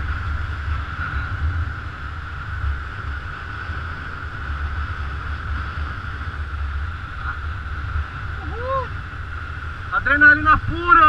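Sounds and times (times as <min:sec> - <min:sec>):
steady high drone: 0:00.0 - 0:11.0
wind rumbling on microphone: 0:00.0 - 0:11.0.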